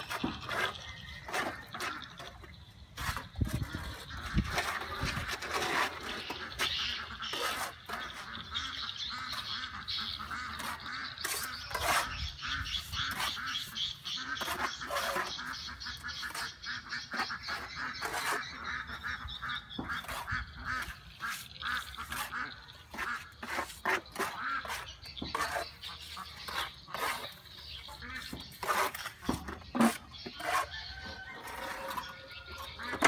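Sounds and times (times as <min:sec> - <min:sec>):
trowel scraping mortar: 0:00.0 - 0:33.0.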